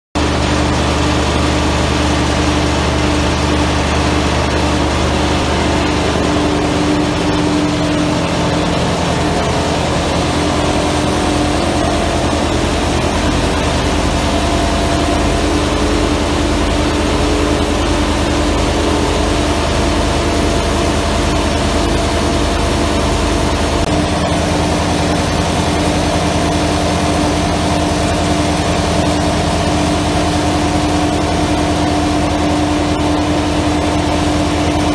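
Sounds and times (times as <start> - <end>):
constant hum: 0.2 - 34.9
machine din: 0.2 - 34.9.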